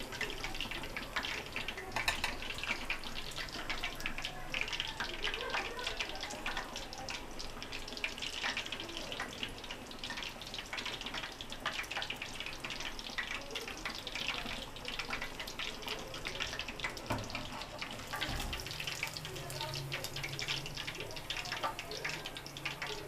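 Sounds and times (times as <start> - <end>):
food deep-frying in hot oil: 0.0 - 23.0.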